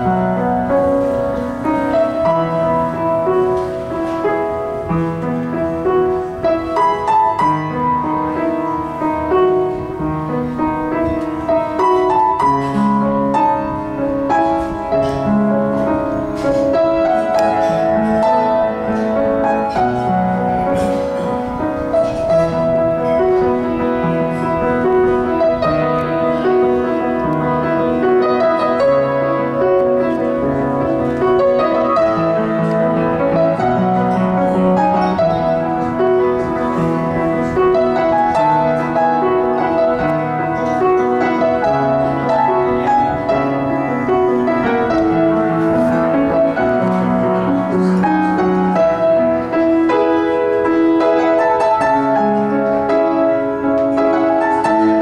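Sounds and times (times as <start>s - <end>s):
grand piano playing: 0.0s - 55.0s.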